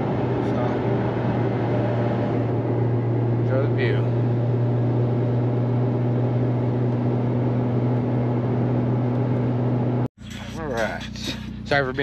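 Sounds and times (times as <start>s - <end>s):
road and wind noise: 0.0s - 10.1s
car engine hum in cabin: 0.0s - 12.0s.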